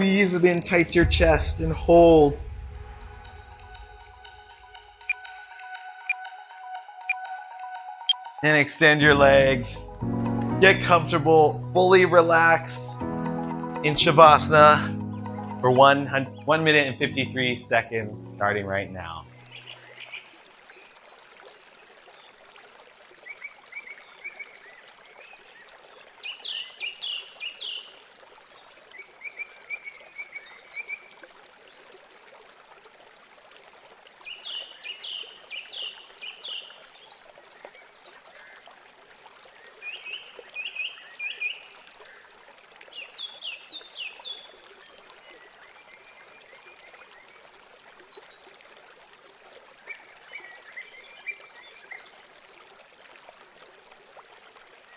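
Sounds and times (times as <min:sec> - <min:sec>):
trickling stream: 0:00.0 - 0:05.2, 0:13.9 - 0:54.9.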